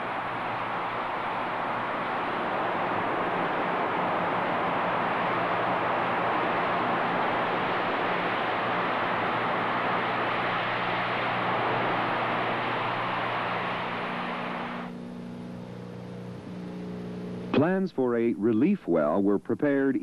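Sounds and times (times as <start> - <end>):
gas jet rushing: 0.0 - 18.3
faint low hum: 0.0 - 20.0.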